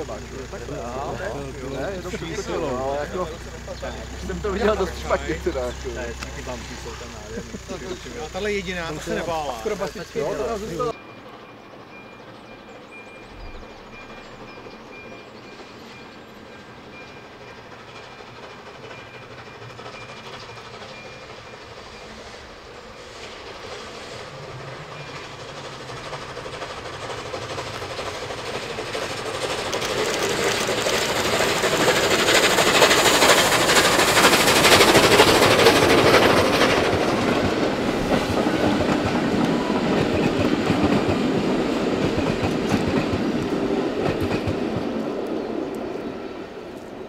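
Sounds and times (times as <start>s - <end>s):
wheels clattering over rails: 0.0s - 10.9s, 12.2s - 46.1s
steam locomotive exhaust beats: 0.0s - 47.0s.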